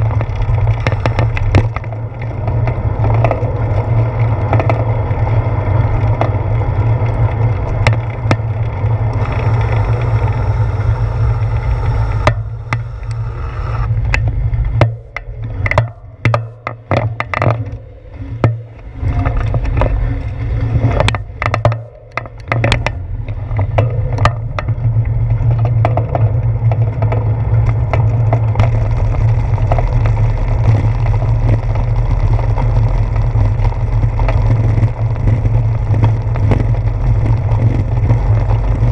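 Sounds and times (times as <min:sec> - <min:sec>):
road and tyre rumble: 0:00.0 - 0:38.9
wind buffeting microphone: 0:00.0 - 0:38.9.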